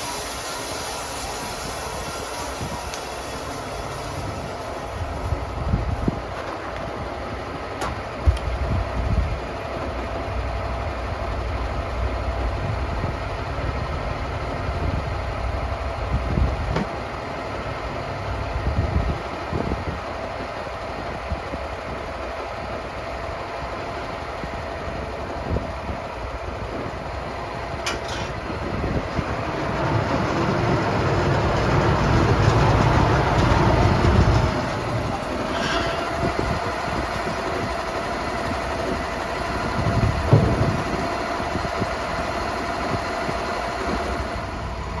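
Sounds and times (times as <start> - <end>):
sawmill engine running: 0.0 - 45.0.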